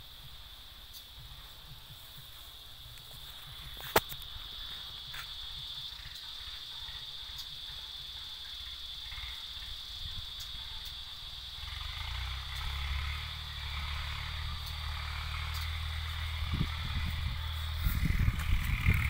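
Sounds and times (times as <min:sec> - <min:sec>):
high-pitched whine: 0:00.0 - 0:19.0
tractor engine running: 0:00.0 - 0:19.0.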